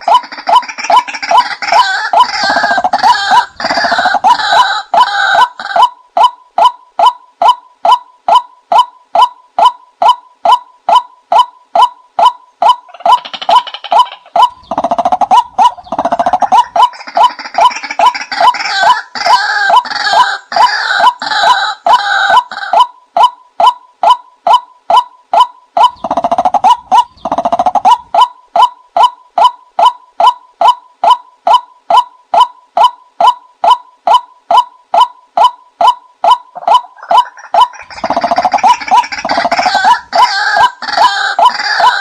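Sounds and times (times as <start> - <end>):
bird clucking notes: 0.0 - 42.0
harsh bird calling: 0.0 - 42.0.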